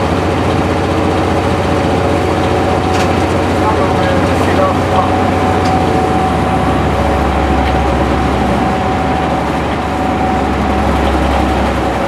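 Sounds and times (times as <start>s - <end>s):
constant hum: 0.0s - 12.0s
train running rumble: 0.0s - 12.0s.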